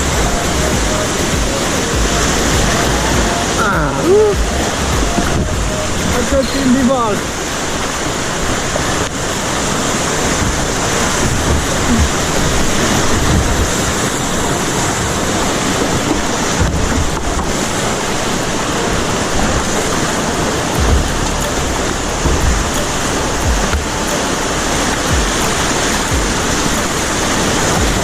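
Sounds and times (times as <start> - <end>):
low rumbling: 0.0 - 28.0
waterfall rushing: 0.0 - 28.0.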